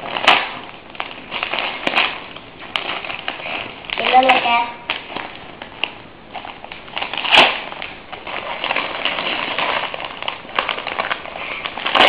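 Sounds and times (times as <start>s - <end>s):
gift wrap ripping and crinkling: 0.0s - 12.0s.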